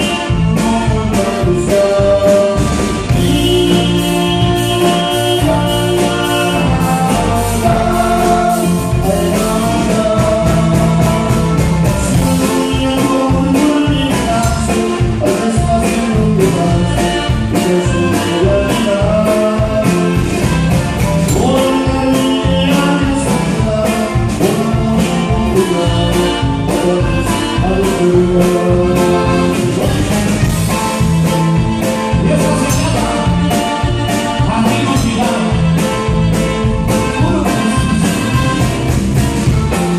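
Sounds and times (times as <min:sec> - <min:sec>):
fast drum beat: 0:00.0 - 0:39.9
live band playing: 0:00.0 - 0:39.9
person singing: 0:00.0 - 0:39.9.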